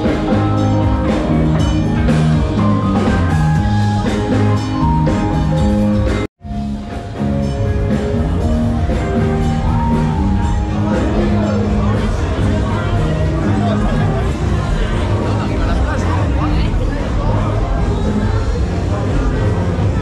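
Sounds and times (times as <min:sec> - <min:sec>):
loud music with drums: 0:00.0 - 0:20.0.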